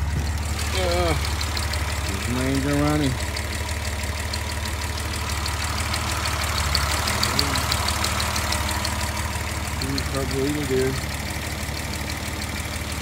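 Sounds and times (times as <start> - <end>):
car engine idling: 0.0 - 13.0
rapid even ticking: 0.6 - 11.2.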